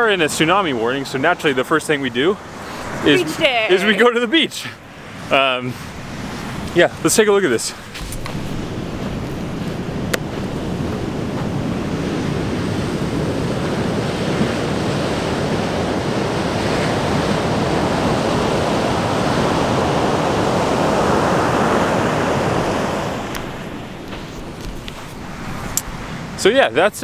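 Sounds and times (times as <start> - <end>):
ocean surf breaking: 0.0 - 27.0.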